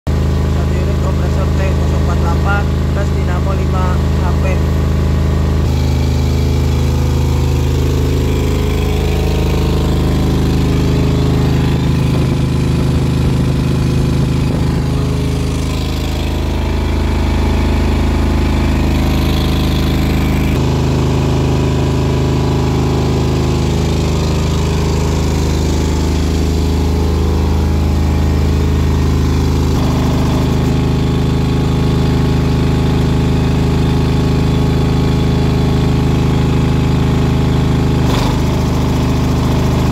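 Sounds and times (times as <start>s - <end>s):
air compressor running: 0.1s - 39.9s.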